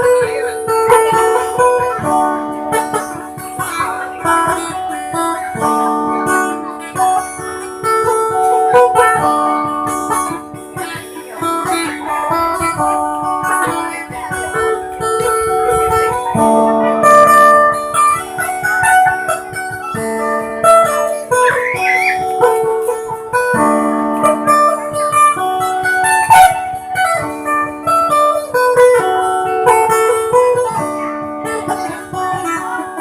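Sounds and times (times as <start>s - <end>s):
plucked lute melody: 0.0s - 33.0s.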